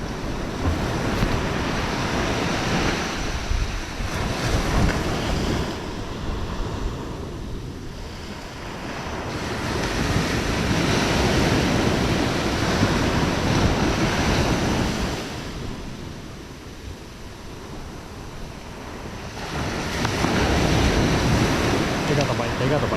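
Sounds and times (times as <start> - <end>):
sea surf washing onto shore: 0.0 - 22.9
wind buffeting microphone: 0.0 - 22.9.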